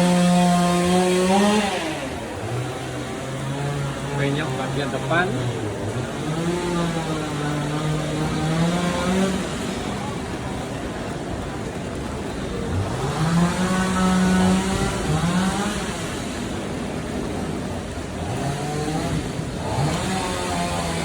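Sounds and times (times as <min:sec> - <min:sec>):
vehicle engines accelerating past: 0:00.0 - 0:21.0.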